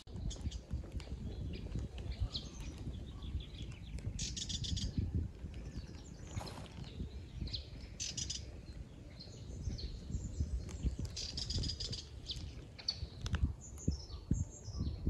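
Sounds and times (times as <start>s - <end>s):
small birds chirping and trilling: 0.1s - 15.0s.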